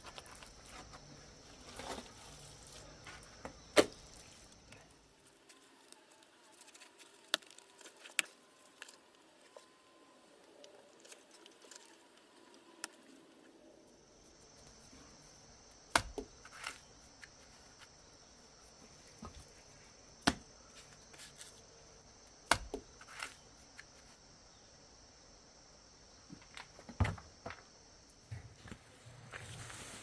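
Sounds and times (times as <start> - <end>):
faint high hiss: 0.0 - 30.0.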